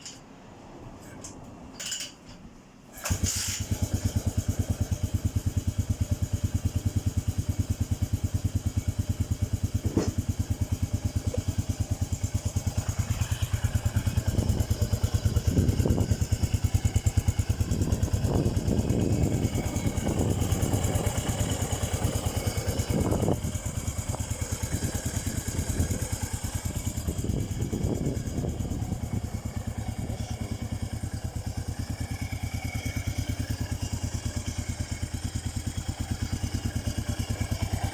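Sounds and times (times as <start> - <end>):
motorcycle engine idling: 3.0 - 37.9.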